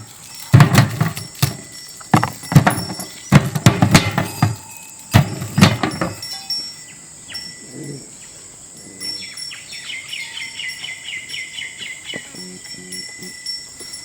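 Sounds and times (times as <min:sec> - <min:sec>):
bird singing falling notes: 0:00.0 - 0:07.5, 0:09.2 - 0:13.4.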